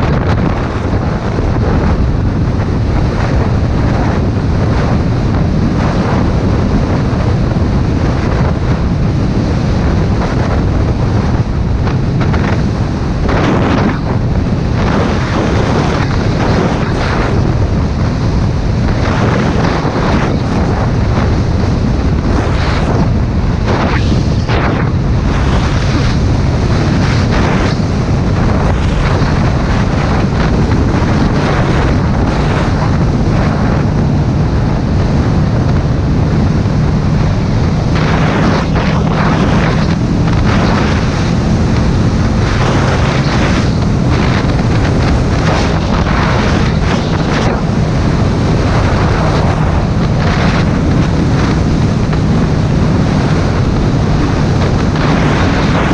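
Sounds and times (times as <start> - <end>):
motorcycle engine running: 0.0 - 55.9
wind buffeting microphone: 0.0 - 55.9.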